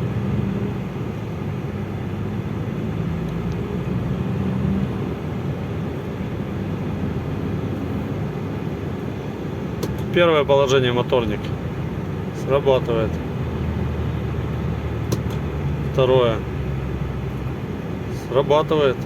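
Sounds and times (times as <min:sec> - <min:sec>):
road noise: 0:00.0 - 0:19.0
truck diesel engine running: 0:00.0 - 0:19.0.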